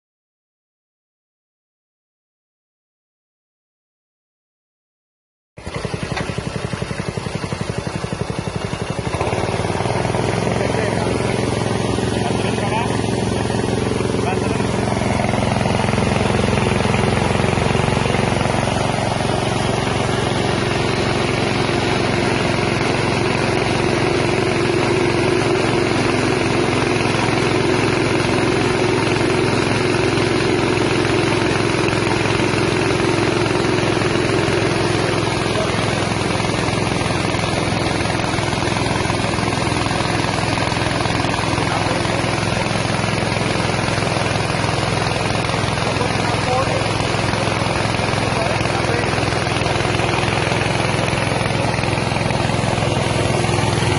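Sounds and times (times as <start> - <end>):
rice milling machine drone: 5.6 - 53.9.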